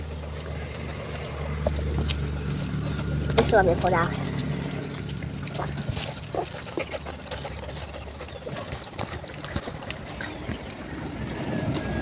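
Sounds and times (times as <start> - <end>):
wet chewing and mouth sounds: 0.0 - 12.0.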